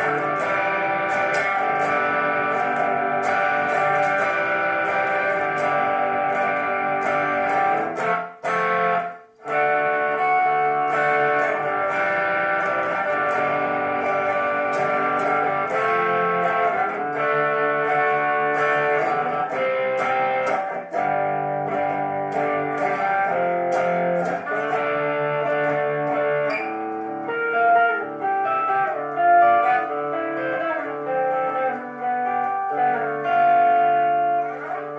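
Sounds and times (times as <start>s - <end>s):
electric guitar melody: 0.0s - 34.9s.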